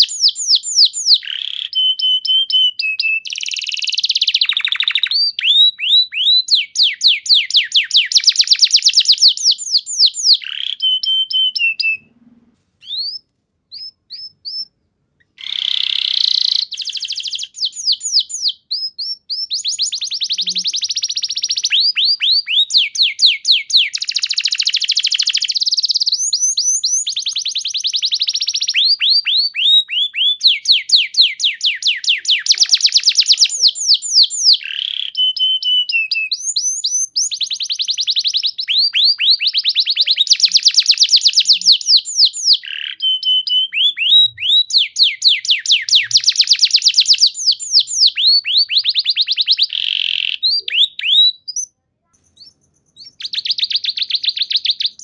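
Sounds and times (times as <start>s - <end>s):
canary chirps: 0.0s - 12.2s, 12.8s - 55.0s
canary singing trills: 0.0s - 12.2s, 12.8s - 55.0s.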